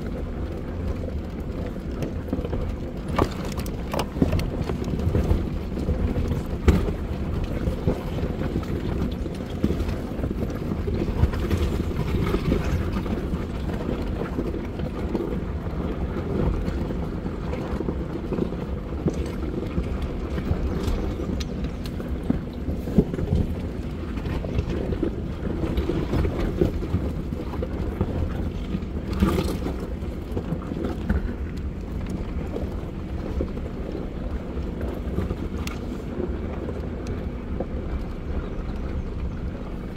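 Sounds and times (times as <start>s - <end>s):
engine and tyre rumble: 0.0s - 39.9s
knocks and rattles over rocks: 0.0s - 39.9s.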